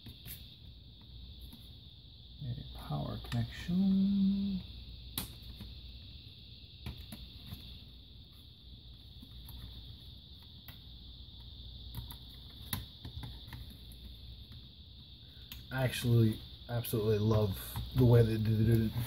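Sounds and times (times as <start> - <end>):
faint high hiss: 0.0 - 19.0.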